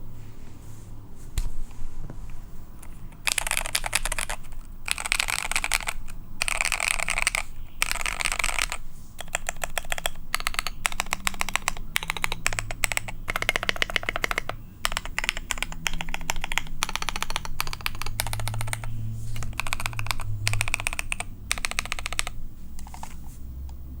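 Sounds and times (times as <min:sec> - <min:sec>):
mechanical keyboard typing: 0:02.8 - 0:23.3.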